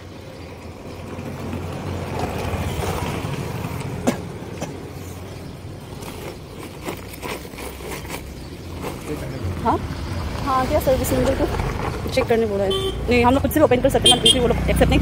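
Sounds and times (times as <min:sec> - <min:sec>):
vehicle passing: 0:00.0 - 0:06.7, 0:07.3 - 0:15.0.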